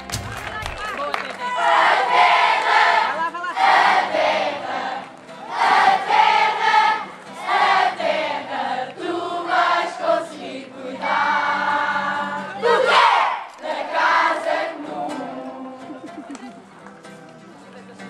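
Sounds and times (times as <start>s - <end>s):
group of people singing: 1.6s - 16.5s.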